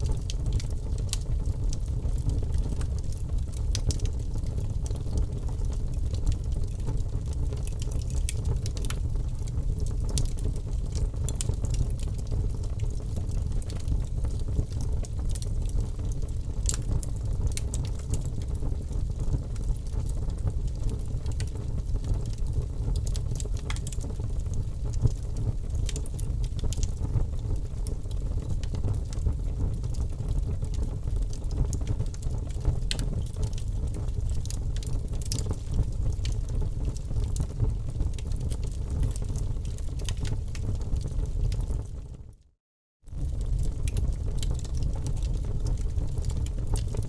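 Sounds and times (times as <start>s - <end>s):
fire crackling and popping: 0.0s - 42.1s, 43.1s - 47.0s.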